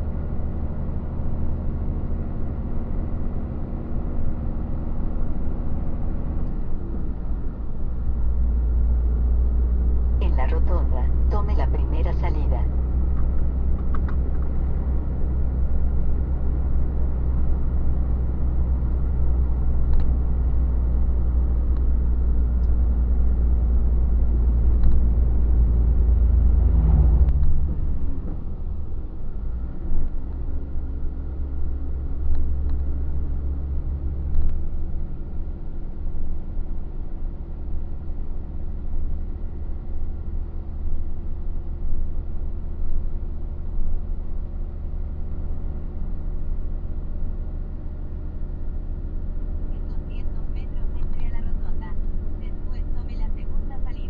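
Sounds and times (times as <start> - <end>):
road noise: 0.0 - 54.0
truck engine droning: 0.0 - 54.0.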